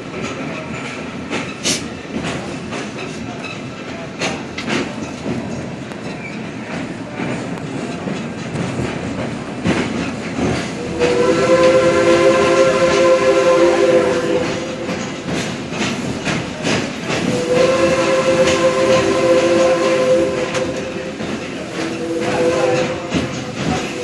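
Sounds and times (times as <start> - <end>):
rail joint clickety-clack: 0.0 - 24.0
train cars rattling: 0.0 - 24.0
train wheels rumbling on rail: 0.0 - 24.0.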